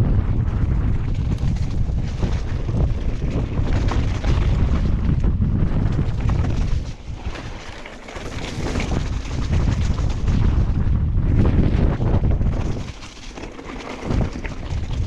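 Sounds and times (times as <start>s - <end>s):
bike rattling: 0.0s - 15.0s
bike tyre noise: 0.0s - 15.0s
wind buffeting microphone: 0.0s - 15.0s.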